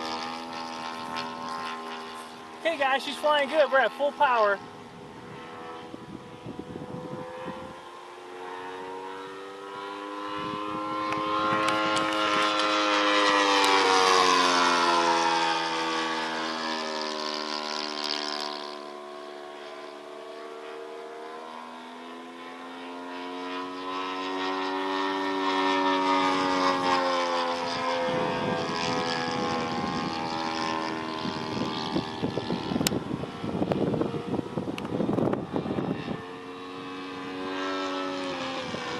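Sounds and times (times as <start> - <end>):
model airplane engine drone: 0.0 - 38.9.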